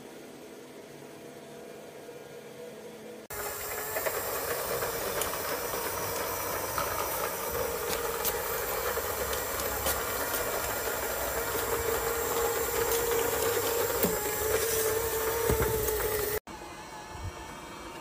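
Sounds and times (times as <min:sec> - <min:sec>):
robot vacuum whirring: 0:03.3 - 0:18.0.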